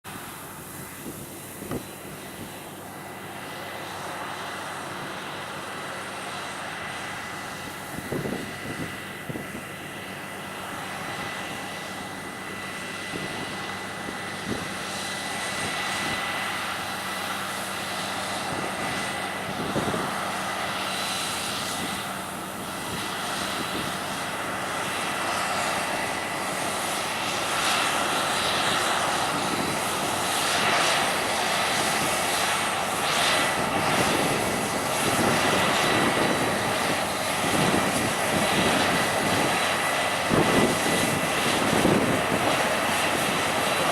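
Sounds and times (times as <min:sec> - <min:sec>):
combine harvester engine drone: 0:00.1 - 0:43.9.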